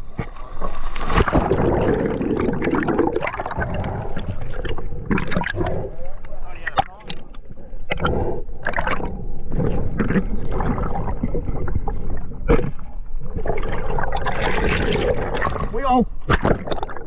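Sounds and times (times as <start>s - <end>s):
water gurgling and sloshing: 0.0s - 17.0s.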